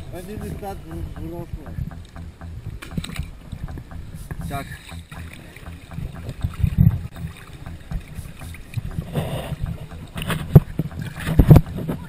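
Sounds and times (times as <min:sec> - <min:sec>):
knocks and splashes: 0:00.0 - 0:12.0
sea water sloshing and gurgling: 0:00.0 - 0:12.0.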